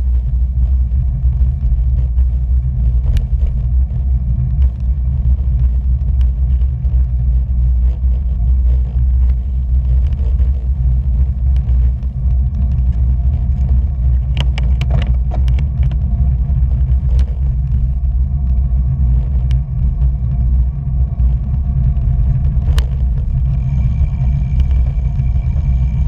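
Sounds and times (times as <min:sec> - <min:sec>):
faint high whine: 0:00.0 - 0:26.0
vehicle engine rumble: 0:00.0 - 0:26.0.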